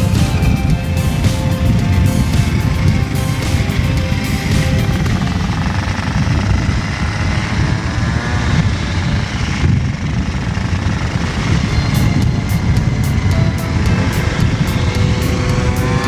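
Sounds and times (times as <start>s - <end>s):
motor scooter engines running: 0.0s - 16.0s
wind rumble on microphone: 0.0s - 16.0s.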